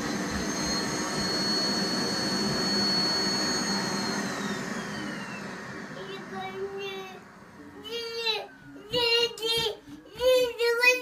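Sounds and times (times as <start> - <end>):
vacuum cleaner motor whine: 0.0 - 10.7.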